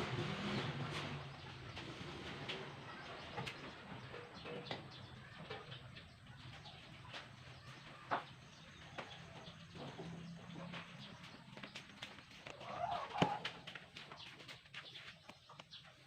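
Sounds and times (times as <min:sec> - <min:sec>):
birds calling: 0:00.4 - 0:16.0.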